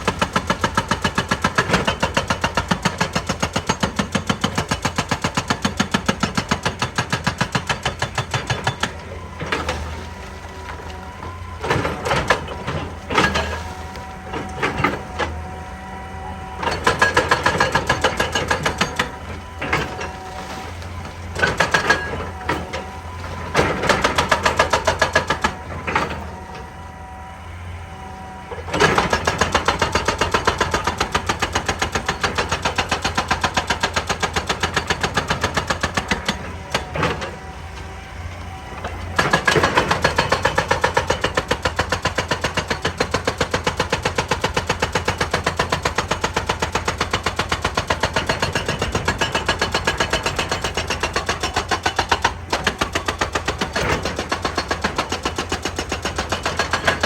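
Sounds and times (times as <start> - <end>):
excavator diesel engine running: 0.0 - 57.0
hydraulic breaker hammering rock: 0.0 - 57.0.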